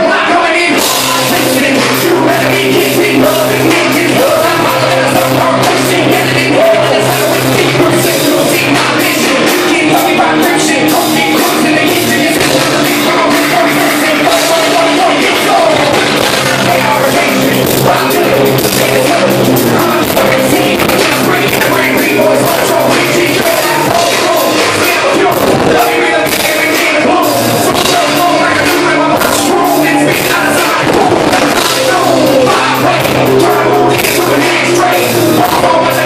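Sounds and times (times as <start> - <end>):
distorted electric guitar: 0.0 - 36.0
drums: 0.0 - 36.0.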